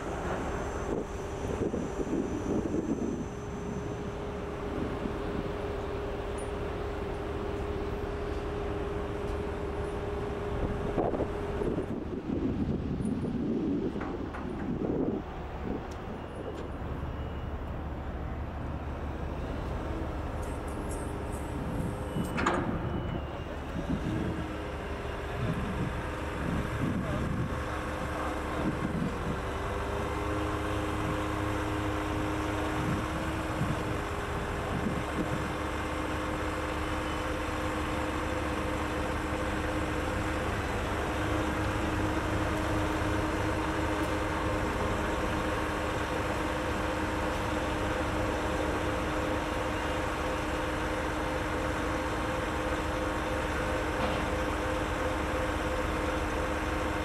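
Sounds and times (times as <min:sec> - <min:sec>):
hydraulic crane hum: 0:00.0 - 0:57.0
truck engine running: 0:00.0 - 0:57.0.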